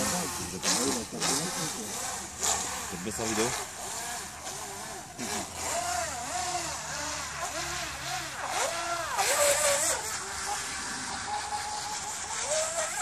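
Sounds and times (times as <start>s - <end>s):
toy boat electric motor whining: 0.0s - 13.0s.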